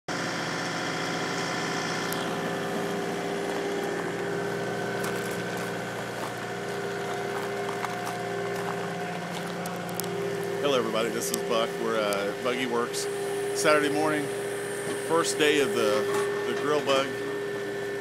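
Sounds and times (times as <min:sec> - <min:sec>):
diesel engine running: 0:00.1 - 0:18.0.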